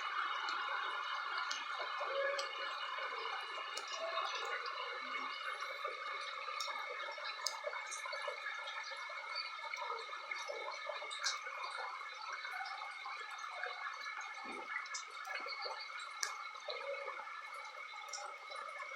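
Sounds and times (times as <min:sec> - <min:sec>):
floodwater running and gurgling: 0:00.0 - 0:18.9
water drips and splashes: 0:00.0 - 0:18.9.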